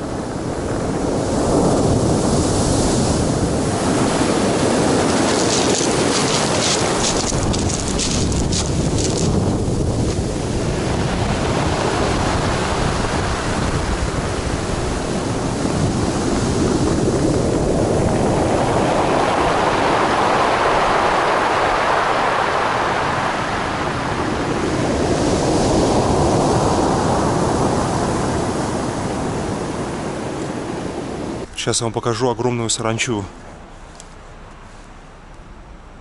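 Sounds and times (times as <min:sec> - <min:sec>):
waves washing over pebbles: 0:00.0 - 0:31.5.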